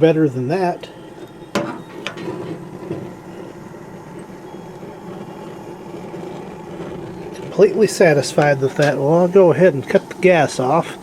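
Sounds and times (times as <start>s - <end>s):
gas burners rushing: 0.0s - 11.0s
sharp igniter clicks: 0.9s - 10.9s.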